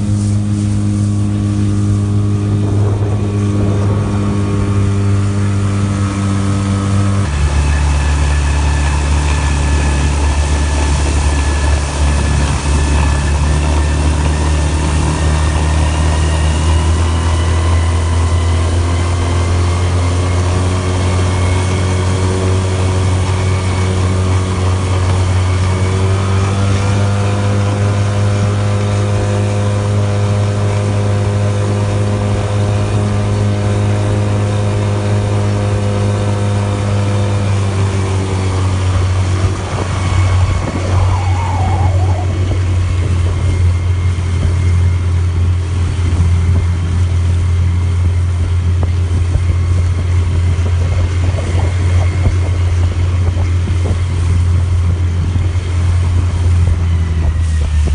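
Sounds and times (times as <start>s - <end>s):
outboard motor running: 0.0s - 57.9s.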